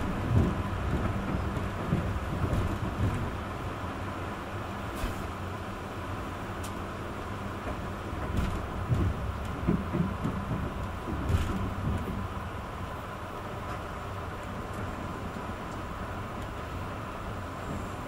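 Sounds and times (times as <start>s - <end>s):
train rolling rumble and hiss: 0.0s - 18.0s.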